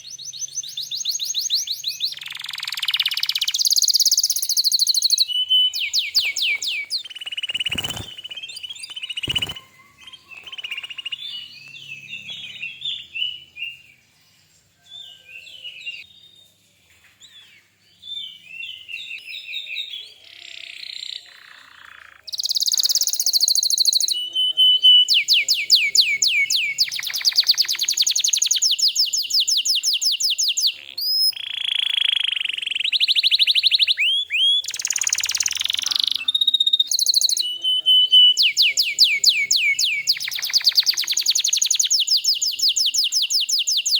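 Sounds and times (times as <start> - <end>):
canary singing fast trills: 0.0 - 16.1, 18.0 - 43.9.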